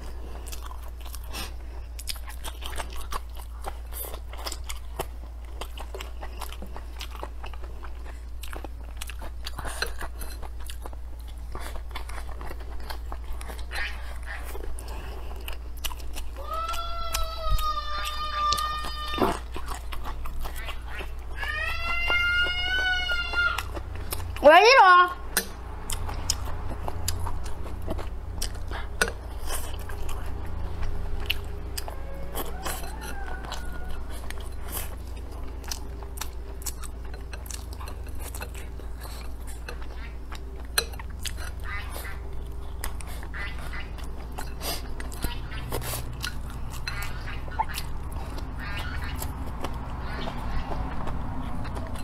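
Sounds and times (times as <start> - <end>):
steady low hum: 0.0 - 21.6, 22.6 - 52.0
chewing and lip smacks: 0.0 - 24.4, 25.3 - 52.0.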